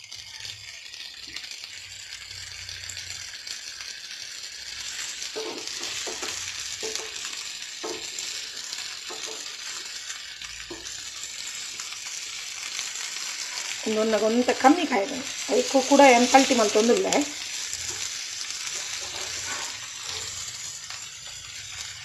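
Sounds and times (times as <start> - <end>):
fish sizzling in oil: 0.0 - 22.0
knocks of fish in a pan: 1.2 - 22.0.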